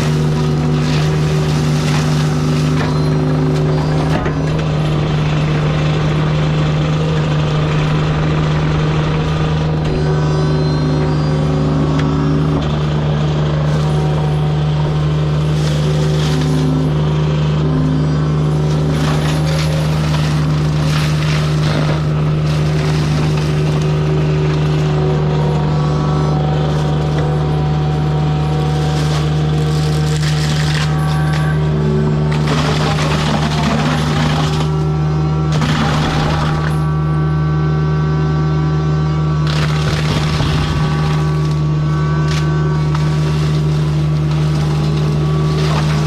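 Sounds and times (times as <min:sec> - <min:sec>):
diesel engine running at high speed: 0:00.0 - 0:46.0
whining tones: 0:00.0 - 0:46.0.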